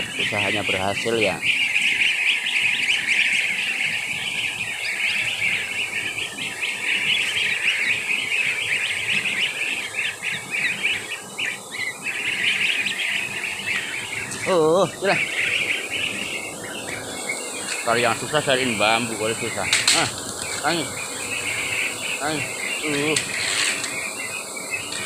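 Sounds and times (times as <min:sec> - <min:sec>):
goslings peeping: 0:00.0 - 0:25.0.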